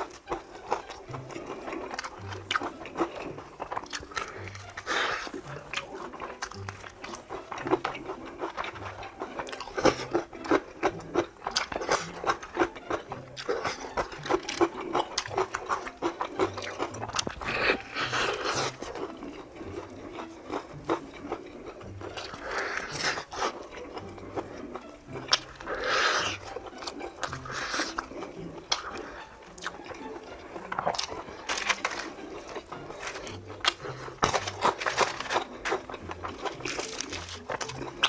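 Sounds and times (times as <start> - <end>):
chewing crispy chicken crunches: 0.0 - 38.0.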